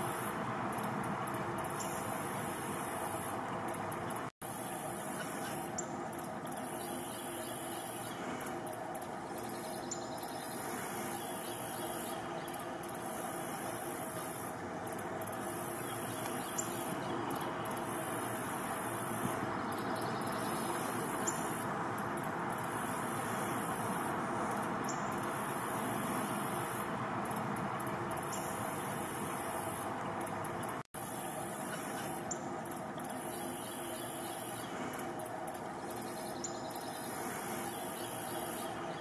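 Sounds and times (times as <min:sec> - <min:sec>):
constant high hiss: 0:00.0 - 0:39.0.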